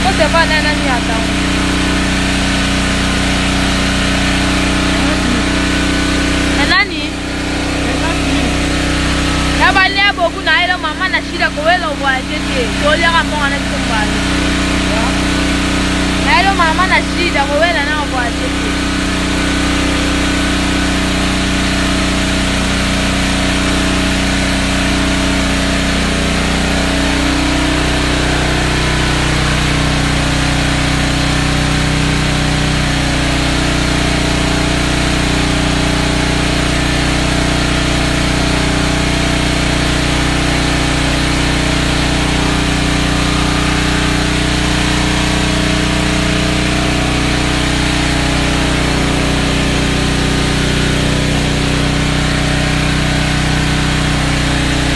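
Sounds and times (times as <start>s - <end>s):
motor running with hiss: 0.0s - 54.9s.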